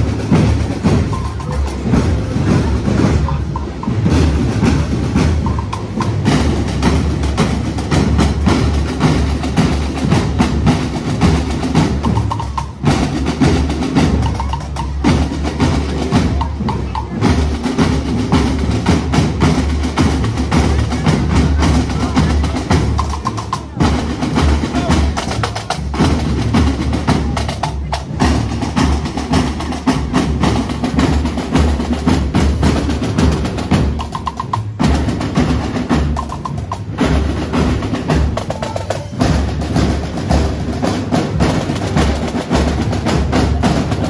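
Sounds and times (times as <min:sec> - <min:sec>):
bass drum beat: 0:00.0 - 0:44.0
snare drums marching beat: 0:00.0 - 0:44.0.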